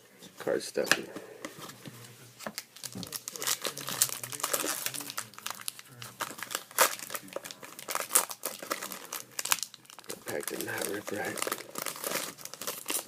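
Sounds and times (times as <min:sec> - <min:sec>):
card pack wrapper crinkling: 0:02.5 - 0:13.0.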